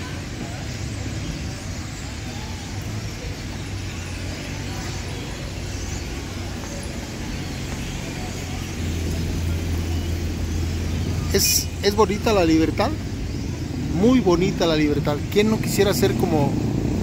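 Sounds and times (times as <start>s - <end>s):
flock of birds chattering: 0.0s - 17.0s
low traffic hum: 0.0s - 17.0s.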